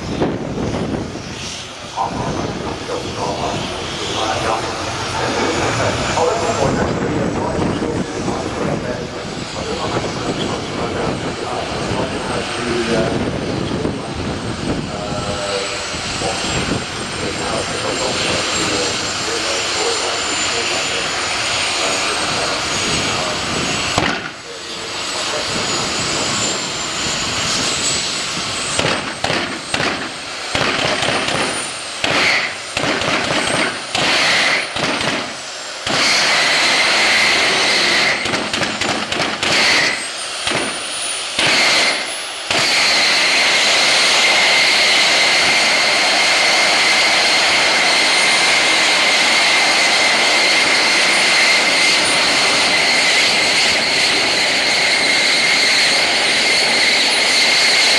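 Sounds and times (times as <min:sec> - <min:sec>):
jet engine roar and whine: 0:00.0 - 0:57.9.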